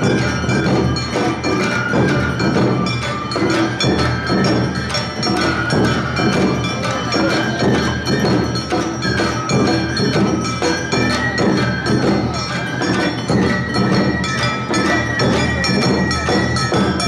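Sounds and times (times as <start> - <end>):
bamboo flute melody: 0.0 - 17.0
drums: 0.0 - 17.0.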